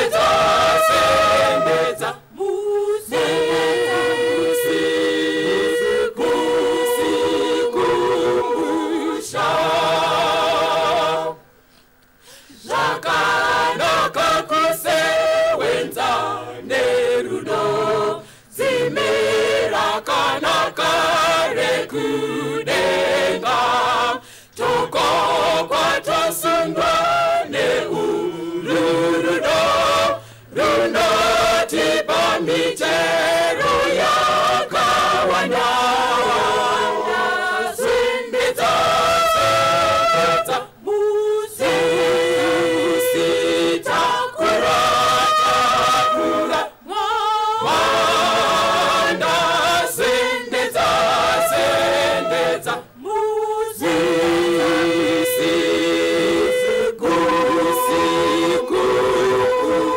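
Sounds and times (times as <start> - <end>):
choir singing a hymn: 0.0 - 11.4, 12.5 - 59.9.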